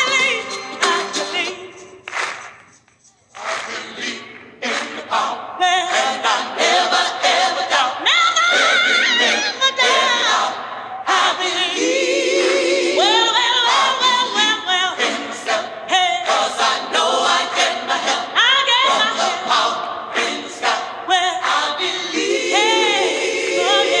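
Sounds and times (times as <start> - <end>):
choir holding chords: 3.4 - 24.0.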